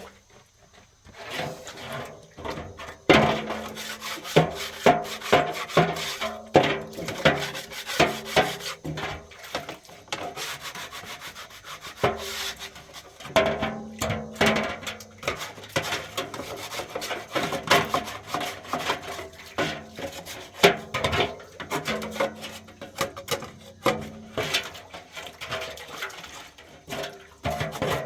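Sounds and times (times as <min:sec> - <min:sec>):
scraping and rubbing on wood: 0:01.1 - 0:28.0.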